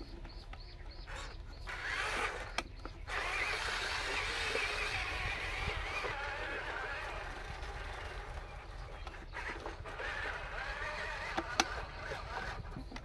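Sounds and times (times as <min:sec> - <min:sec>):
electric motor and gearbox whining: 0:01.0 - 0:13.0.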